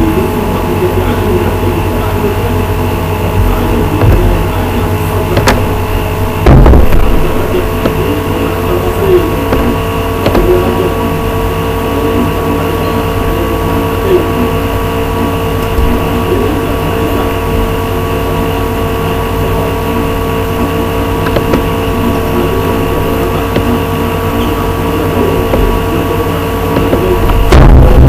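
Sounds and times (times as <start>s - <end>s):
motor humming over low rumble: 0.0s - 28.0s.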